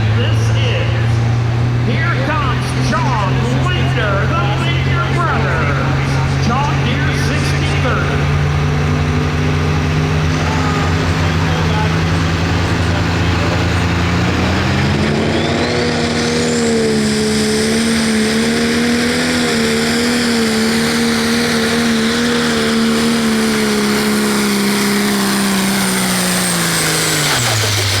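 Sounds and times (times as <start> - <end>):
diesel tractor engine at full throttle: 0.0 - 28.0.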